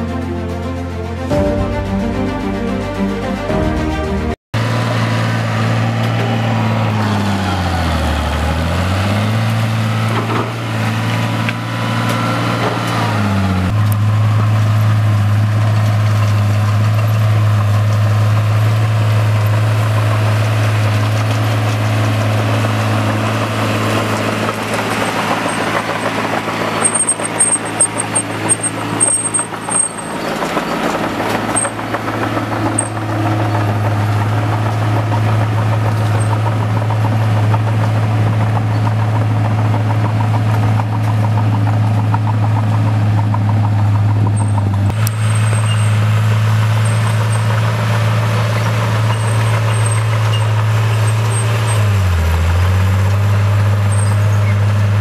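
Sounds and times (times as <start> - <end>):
bulldozer diesel engine droning: 0.0 - 55.0
knocks and clatter: 9.4 - 13.1, 13.7 - 55.0.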